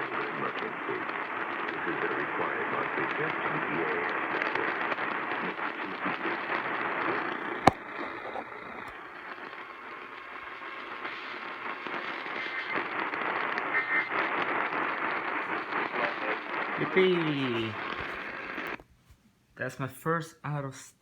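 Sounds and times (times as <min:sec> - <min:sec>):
radio static hiss: 0:00.0 - 0:06.6, 0:07.7 - 0:18.8.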